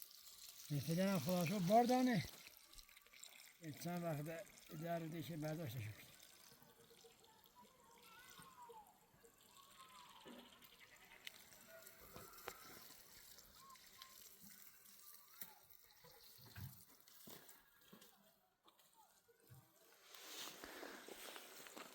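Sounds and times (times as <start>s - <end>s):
water trickling: 0.0s - 17.8s.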